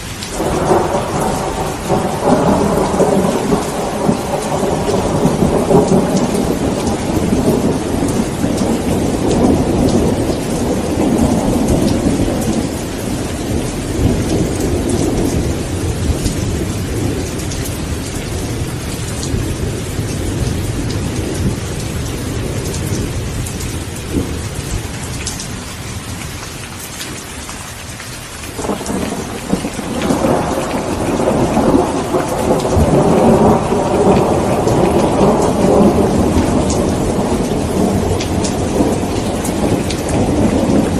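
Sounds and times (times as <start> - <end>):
heavy rain: 0.0 - 40.9
rolling thunder: 0.2 - 26.2, 28.6 - 40.9.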